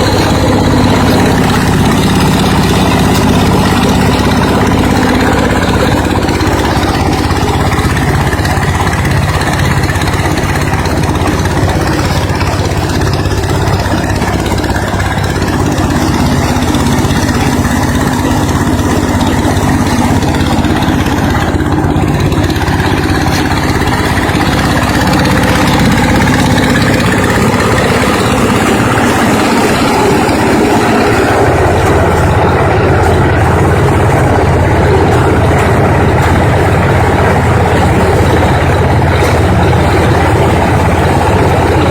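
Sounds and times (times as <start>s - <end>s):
corn sheller engine running: 0.0s - 41.9s.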